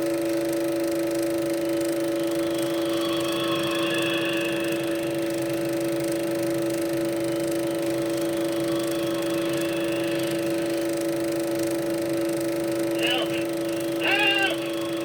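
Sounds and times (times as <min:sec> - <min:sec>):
projector soundtrack hum: 0:00.0 - 0:15.0.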